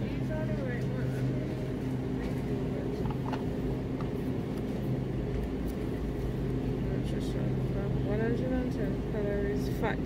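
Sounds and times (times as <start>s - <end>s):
refrigeration machine hum: 0.0s - 10.0s.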